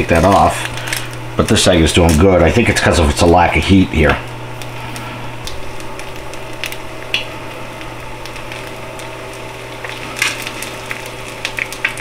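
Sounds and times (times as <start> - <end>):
eggs sizzling in a pan: 0.0 - 12.0
steady low hum: 0.0 - 12.0.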